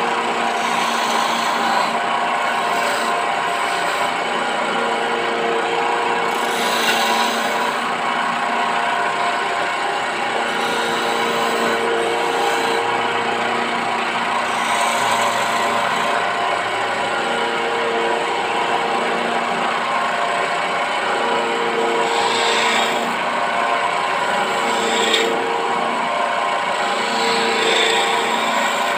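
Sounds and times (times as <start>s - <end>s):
chisel scraping spinning wood: 0.0s - 28.9s
lathe motor humming: 0.0s - 28.9s.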